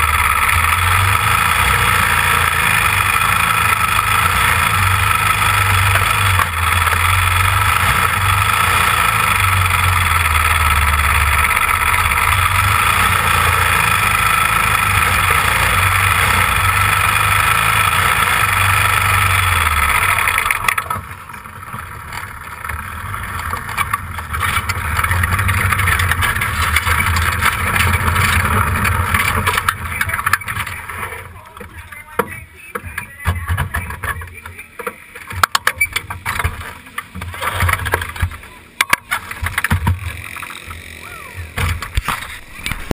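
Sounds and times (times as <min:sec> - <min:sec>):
race car engine running: 0:00.0 - 0:42.9.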